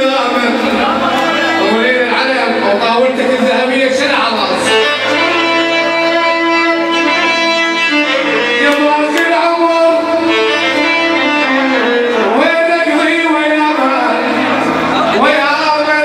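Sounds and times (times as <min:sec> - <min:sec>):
instrumental band music: 0:00.0 - 0:16.0.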